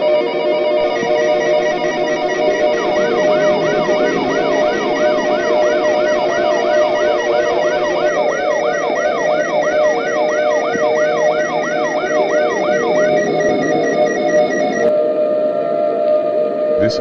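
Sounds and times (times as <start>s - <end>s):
electronic siren yelping: 0.0s - 15.1s
high fast siren warble: 0.0s - 15.8s
droning siren tones: 0.0s - 17.0s.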